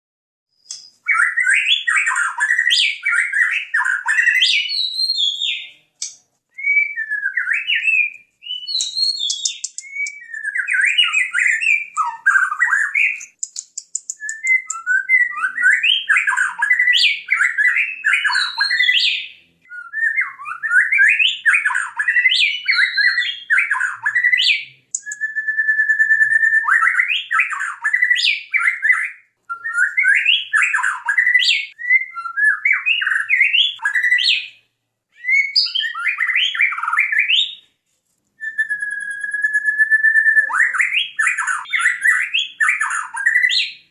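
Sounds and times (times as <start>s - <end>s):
bird singing rich whistles: 0.5s - 37.7s, 38.4s - 43.9s.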